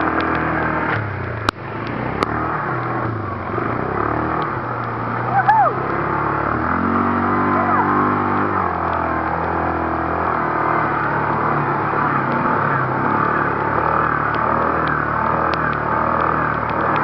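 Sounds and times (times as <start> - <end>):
road and tyre noise: 0.0 - 17.0
vehicle engine running: 0.0 - 17.0.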